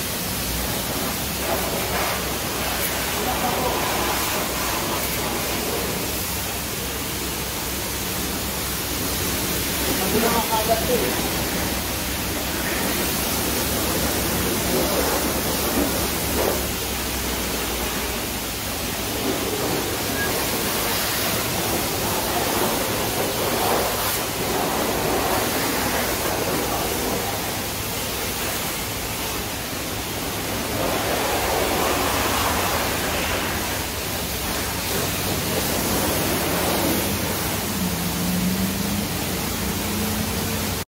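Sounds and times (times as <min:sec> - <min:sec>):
water spray hissing: 0:00.0 - 0:40.8.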